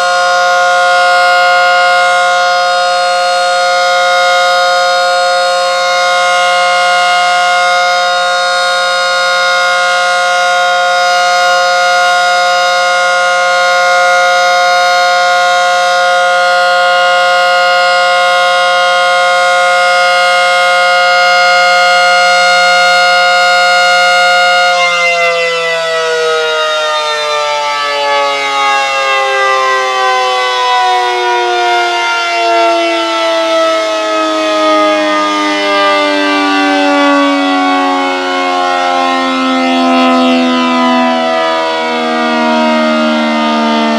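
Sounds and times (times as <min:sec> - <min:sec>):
civil defense siren wailing: 0:00.0 - 0:43.9.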